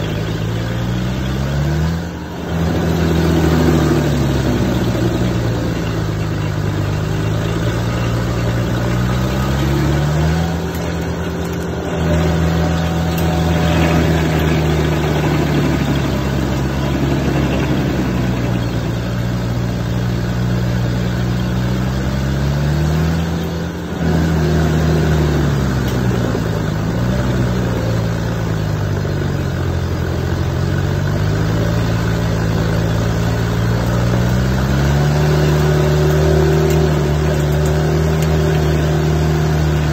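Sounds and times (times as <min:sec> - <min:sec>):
stump grinder engine and grinding: 0:00.0 - 0:39.9.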